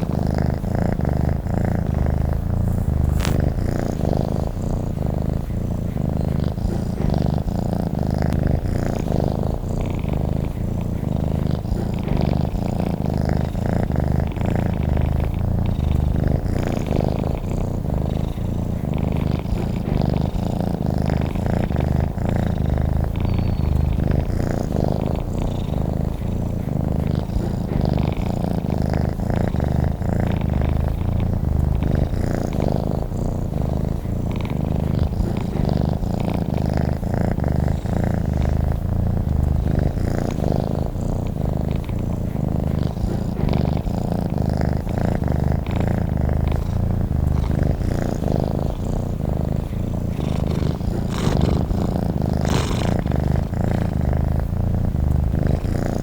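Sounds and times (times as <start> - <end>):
cat purring: 0.0 - 56.0.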